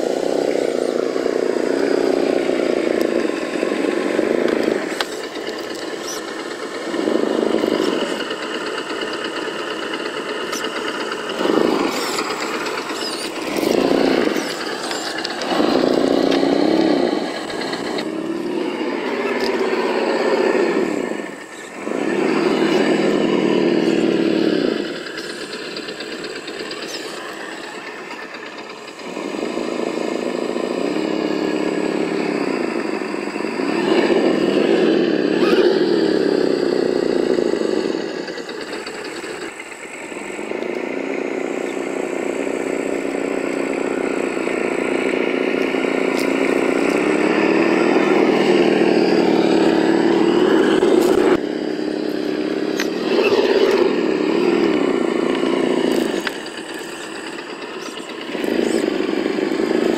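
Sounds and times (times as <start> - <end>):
simulated engine revving from speaker: 0.0 - 59.9.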